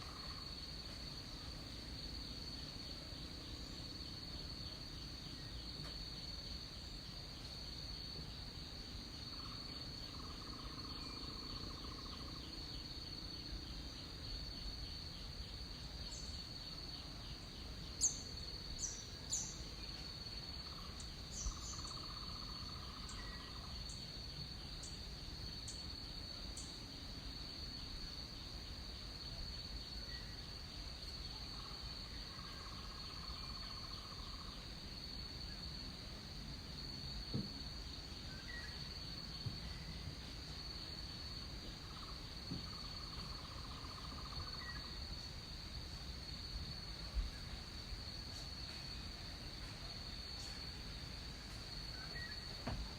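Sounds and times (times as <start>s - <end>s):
insect chorus high drone: 0.0s - 52.9s
low buzzing insect call: 0.0s - 52.9s.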